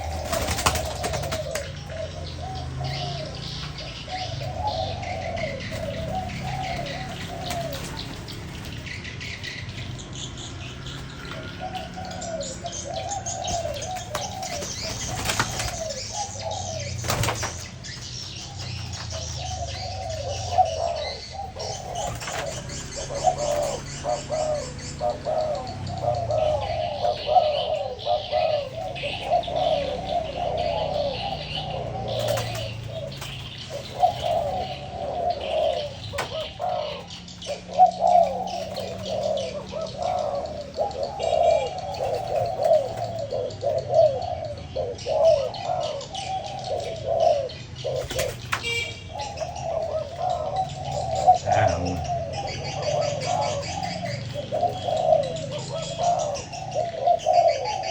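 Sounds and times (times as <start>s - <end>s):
birds chirping: 0.0s - 57.9s
doves cooing: 0.0s - 57.9s.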